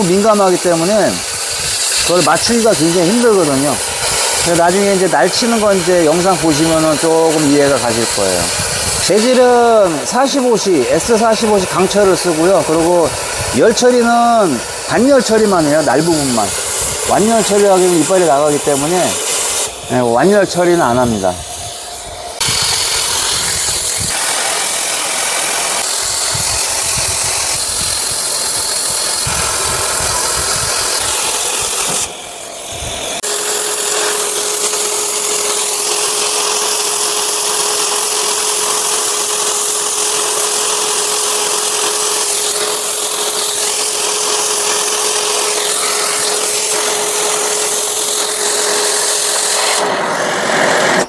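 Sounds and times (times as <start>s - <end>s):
cutting torch hissing: 0.0s - 51.0s.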